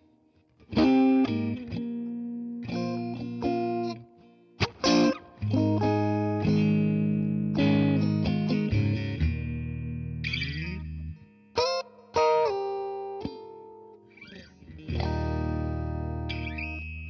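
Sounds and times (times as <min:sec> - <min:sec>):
electric guitar chords ringing: 0:00.0 - 0:17.0
guitar notes sliding down: 0:00.6 - 0:13.5, 0:14.1 - 0:17.0.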